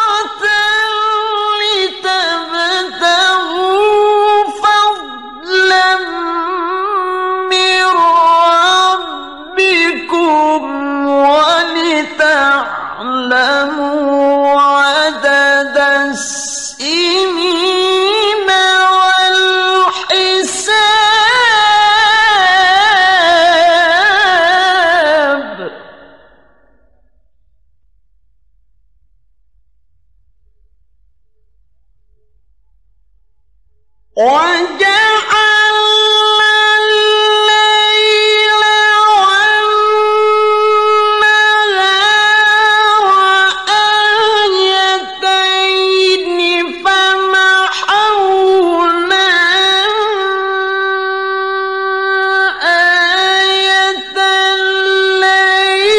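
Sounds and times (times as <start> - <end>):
man reciting melodically: 0.0 - 26.1, 34.2 - 55.9.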